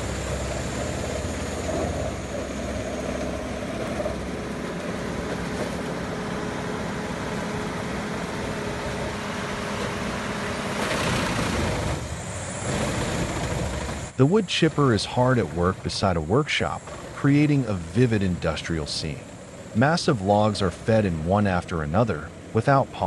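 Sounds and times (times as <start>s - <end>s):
wood-processing machine running: 0.0s - 23.0s.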